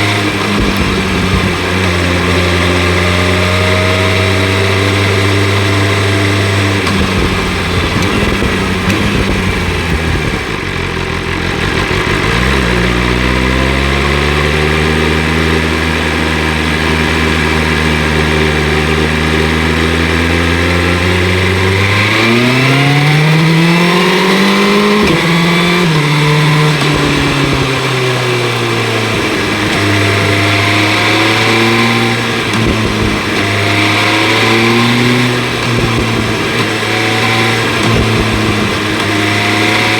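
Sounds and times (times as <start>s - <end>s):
wind noise: 0.0s - 10.7s, 17.0s - 39.9s
motorcycle engine revving: 0.0s - 39.9s.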